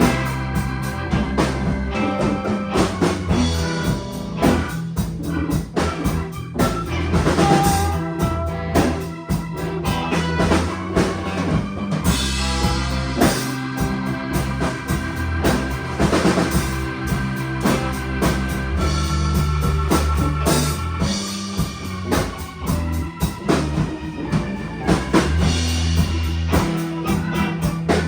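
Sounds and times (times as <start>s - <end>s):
drum kit beat: 0.0s - 28.0s
held bass notes: 0.0s - 28.0s
keyboard or guitar lines: 0.0s - 28.0s.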